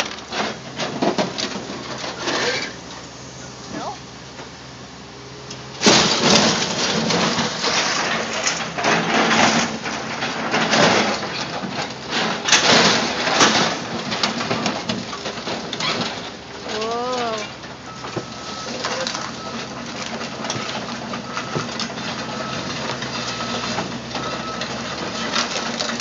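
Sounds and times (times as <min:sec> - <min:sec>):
excavator crushing sheet metal: 0:00.0 - 0:03.1, 0:05.5 - 0:26.0
excavator engine hum: 0:00.0 - 0:26.0.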